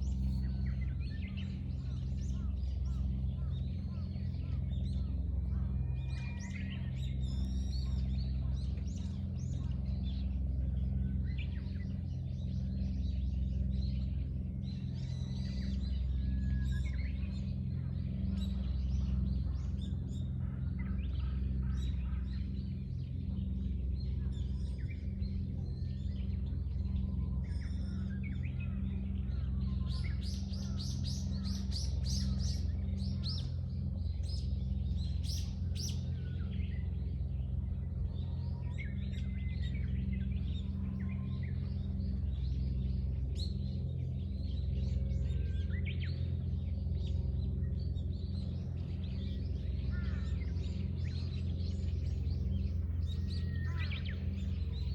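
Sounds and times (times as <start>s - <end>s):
songbirds chirping: 0.0s - 54.9s
steady low hum: 0.0s - 54.9s.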